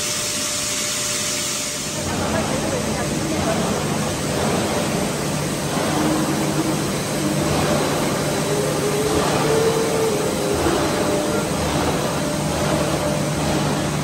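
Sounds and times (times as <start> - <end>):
steady machinery rush: 1.7 - 14.0
low machinery hum: 1.9 - 14.0.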